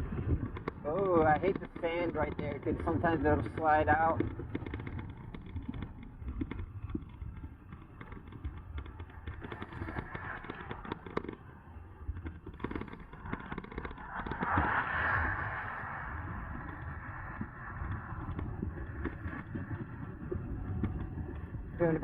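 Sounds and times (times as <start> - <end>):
bike rattling and knocking: 0.0 - 15.2, 15.8 - 22.0
tyres rumbling over sandy ground: 0.0 - 22.0
wind rushing over microphone: 0.0 - 22.0.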